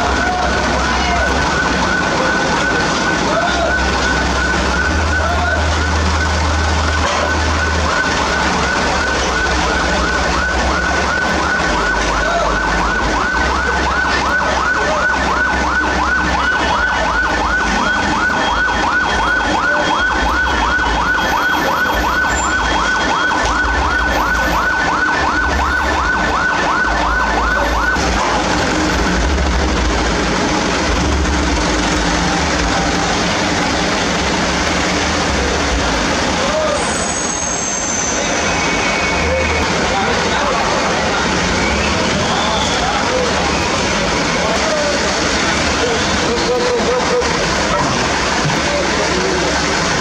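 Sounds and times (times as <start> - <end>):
siren cycling rapidly: 0.0 - 45.0.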